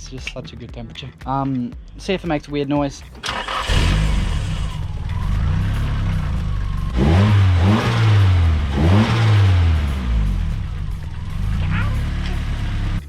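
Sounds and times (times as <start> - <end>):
car engine idling and revving: 1.8 - 13.0.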